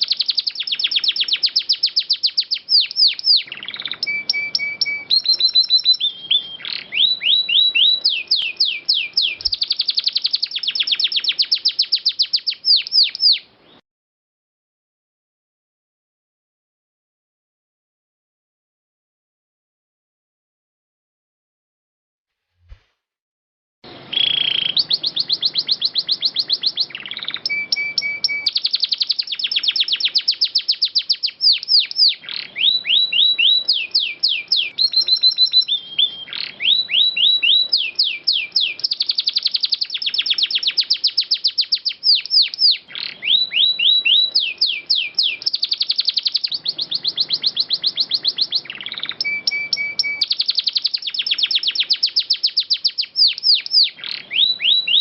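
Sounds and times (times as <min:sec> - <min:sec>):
canary singing trills: 0:00.0 - 0:13.8, 0:23.9 - 0:55.0.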